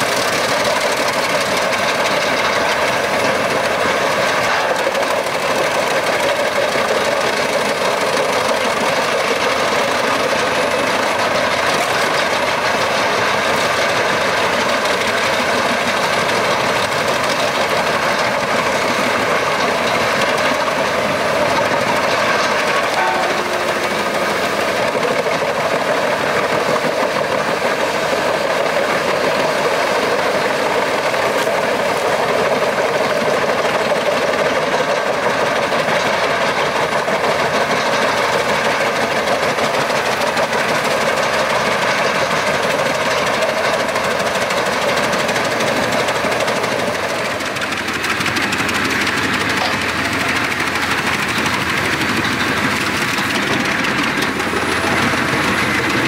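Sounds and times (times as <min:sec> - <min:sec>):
chipper cutting logs: 0:00.0 - 0:56.0
wood chipper engine running hard: 0:00.0 - 0:56.0.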